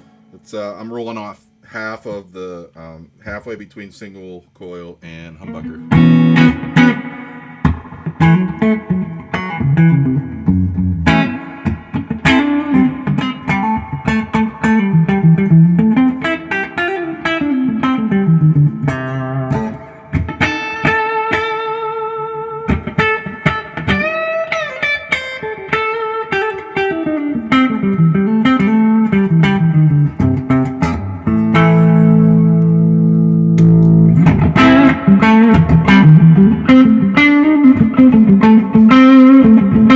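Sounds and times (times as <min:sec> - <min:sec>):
electric guitar melody: 0:05.4 - 0:39.9.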